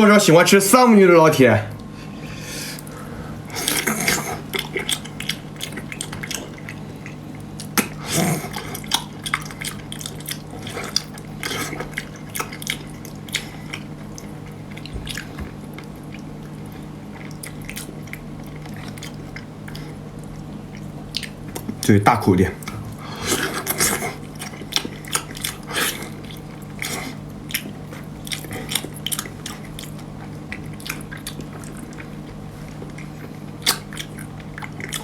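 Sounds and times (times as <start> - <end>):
wet chewing of seafood: 1.8 - 21.9, 22.6 - 35.0.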